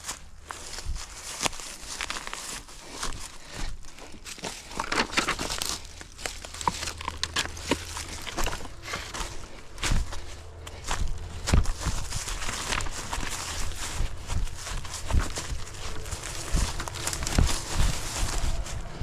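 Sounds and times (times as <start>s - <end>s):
twigs crackling underfoot: 0.0s - 19.0s.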